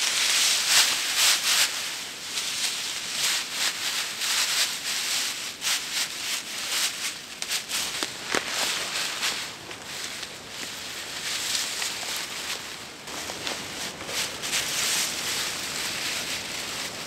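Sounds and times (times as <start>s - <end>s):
dry grass rustling and scraping: 0.0s - 17.0s.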